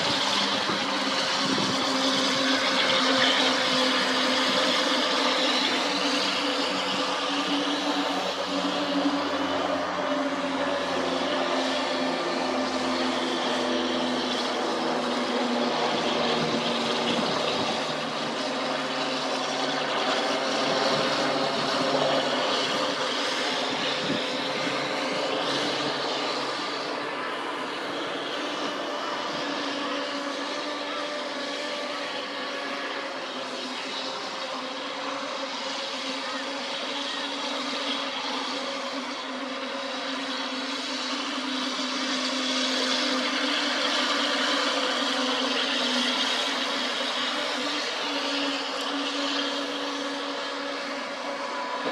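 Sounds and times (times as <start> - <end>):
model boat engine drone: 0.0 - 51.9
water spray wash: 0.0 - 51.9.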